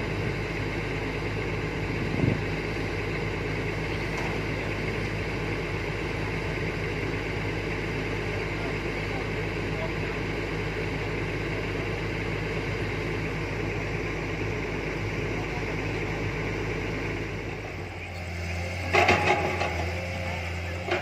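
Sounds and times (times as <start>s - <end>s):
diesel engine idling: 0.0s - 21.0s
engine hum: 0.0s - 21.0s.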